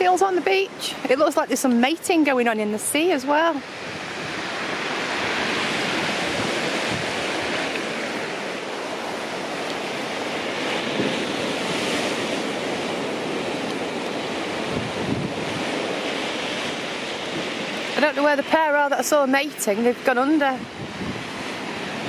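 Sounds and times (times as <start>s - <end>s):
surf on pebble beach: 0.0s - 22.0s
wind buffeting microphone: 0.0s - 22.0s.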